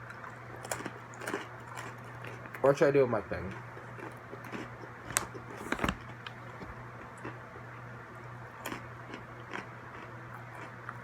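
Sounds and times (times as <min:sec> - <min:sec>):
pretzels being chewed: 0:00.0 - 0:02.8, 0:03.4 - 0:07.4, 0:08.1 - 0:11.0
low electrical hum: 0:00.0 - 0:11.0.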